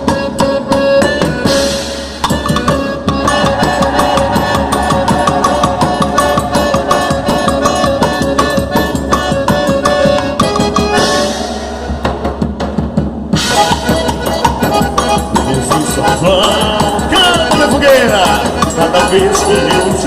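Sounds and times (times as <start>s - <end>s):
sustained melody notes: 0.0s - 12.5s, 13.4s - 20.0s
fast drum beat: 1.4s - 20.0s.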